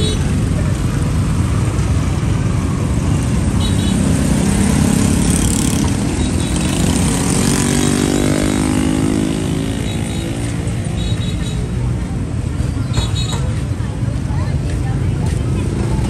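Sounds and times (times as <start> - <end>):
street rumble: 0.0 - 16.0.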